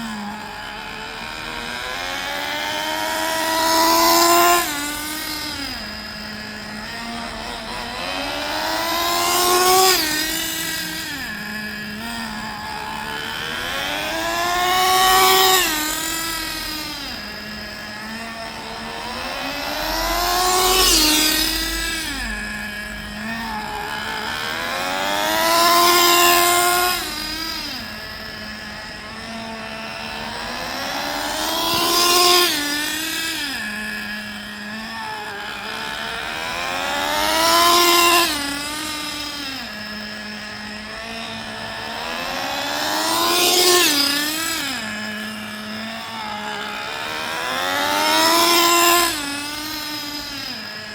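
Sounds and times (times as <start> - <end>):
rc truck engine whine passing: 0.0 - 50.9.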